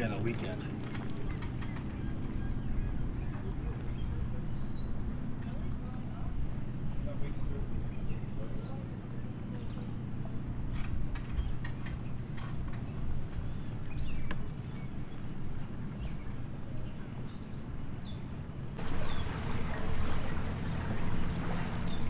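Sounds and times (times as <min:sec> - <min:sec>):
low wind rumble on microphone: 0:00.0 - 0:22.0.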